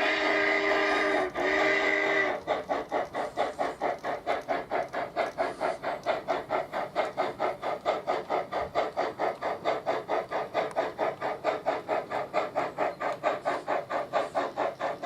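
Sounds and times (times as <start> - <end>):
model steam locomotive chuffs: 0.0 - 15.0.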